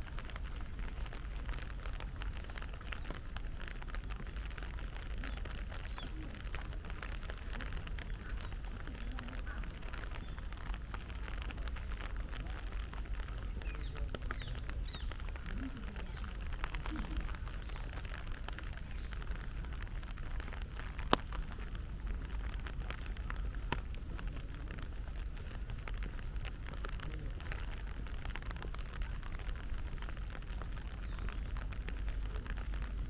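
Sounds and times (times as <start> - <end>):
heavy rain pattering: 0.0 - 33.0.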